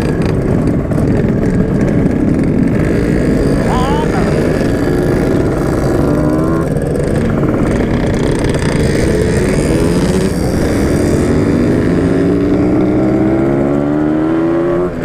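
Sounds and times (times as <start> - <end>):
two-stroke motorcycle engine: 0.0 - 15.0.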